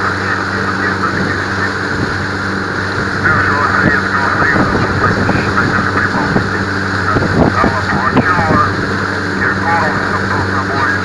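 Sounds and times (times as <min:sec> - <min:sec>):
boat wake rushing and splashing: 0:00.0 - 0:11.0
outboard motor running: 0:00.0 - 0:11.0.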